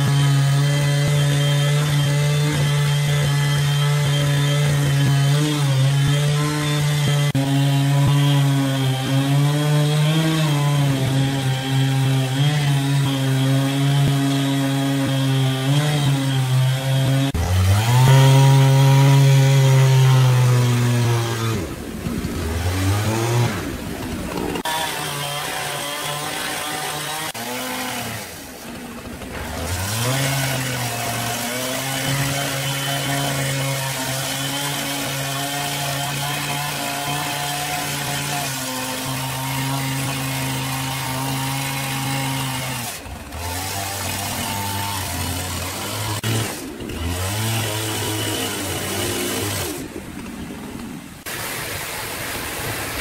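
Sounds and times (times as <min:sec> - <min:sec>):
chainsaw cutting log: 0:00.0 - 0:53.0.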